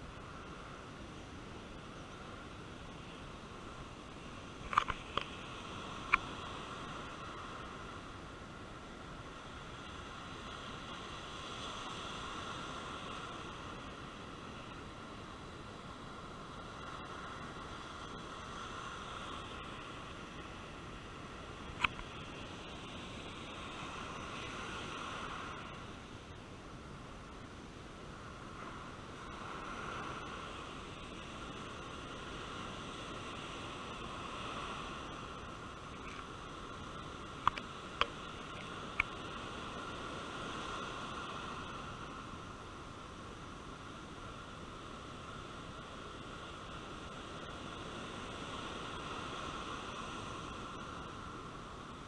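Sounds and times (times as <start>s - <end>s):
surf breaking and washing on sand: 0.0s - 52.0s
wind: 0.0s - 52.0s.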